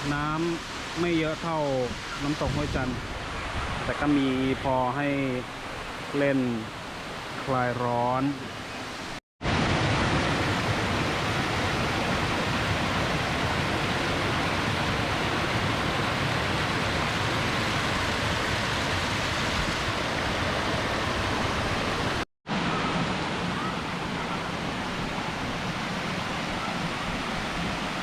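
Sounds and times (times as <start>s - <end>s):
waterfall roaring: 3.3s - 28.0s.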